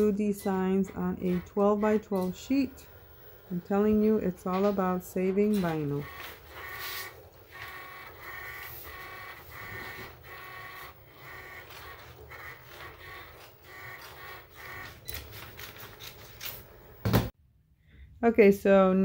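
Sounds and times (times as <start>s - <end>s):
cutting machine motors whining: 0.0s - 17.0s.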